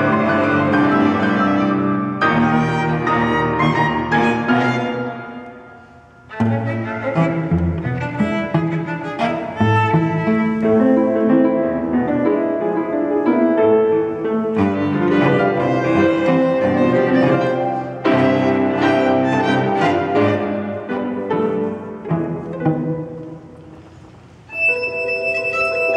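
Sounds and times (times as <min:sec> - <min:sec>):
bowed strings melody: 0:00.0 - 0:25.9
piano playing: 0:00.0 - 0:25.9.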